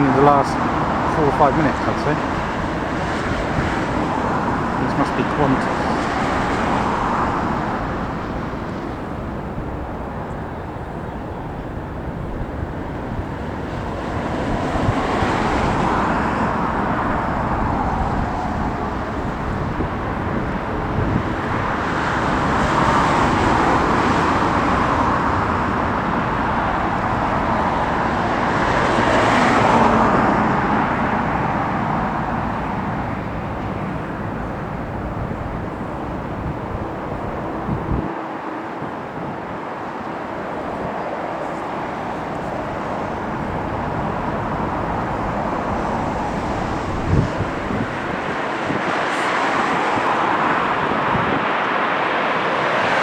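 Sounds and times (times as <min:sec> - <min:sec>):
low traffic rumble: 0:00.0 - 0:53.0
vehicles passing: 0:00.0 - 0:53.0
wind buffeting microphone: 0:00.0 - 0:53.0.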